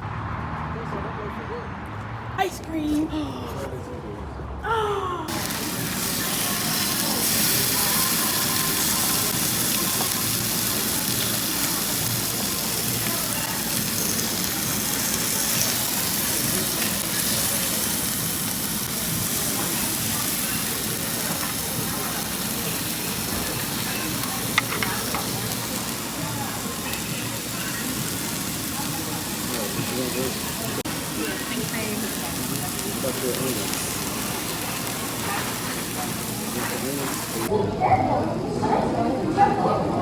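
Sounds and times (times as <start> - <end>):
food sizzling in a pan: 5.3 - 37.5.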